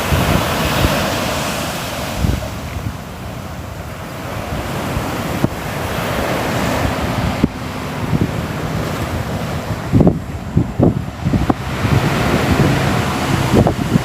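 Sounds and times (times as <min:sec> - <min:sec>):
sea waves washing on shore: 0:00.0 - 0:14.0
wind rumble on microphone: 0:00.0 - 0:14.0.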